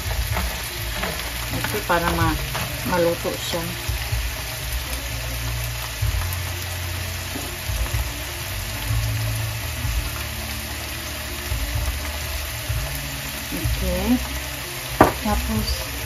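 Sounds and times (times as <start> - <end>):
food sizzling in a covered pan: 0.0 - 16.0.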